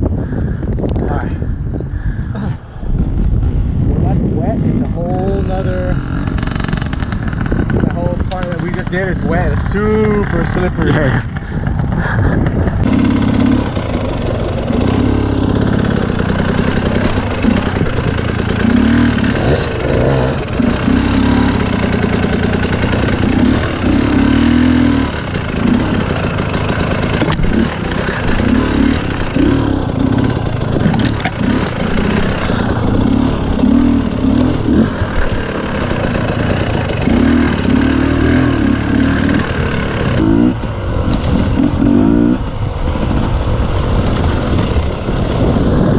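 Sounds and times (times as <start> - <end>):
dirt bike engine revving: 4.2 - 45.9.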